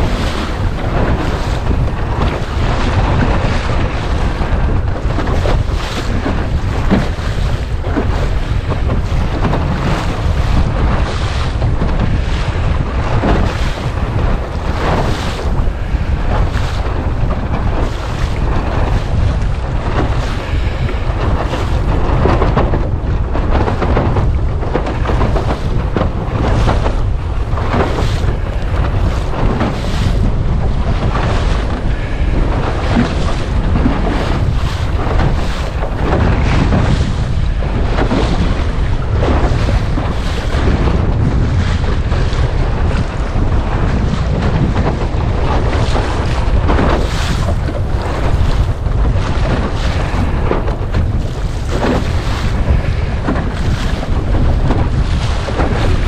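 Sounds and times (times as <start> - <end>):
water splashing against hull: 0.0 - 56.0
wind buffeting microphone: 0.0 - 56.0.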